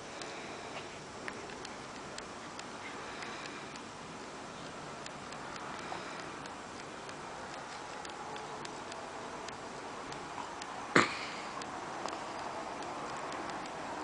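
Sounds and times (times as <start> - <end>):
steady background hiss: 0.0 - 14.0
light ticks: 0.1 - 10.8, 11.5 - 14.0.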